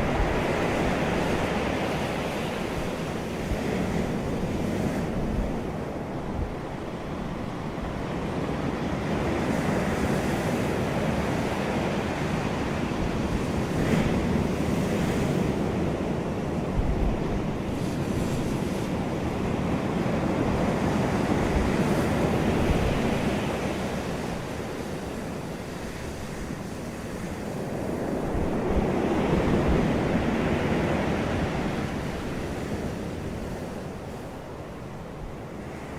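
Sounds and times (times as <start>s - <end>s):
sea waves breaking on beach: 0.0s - 35.9s
wind buffeting microphone: 0.0s - 35.9s.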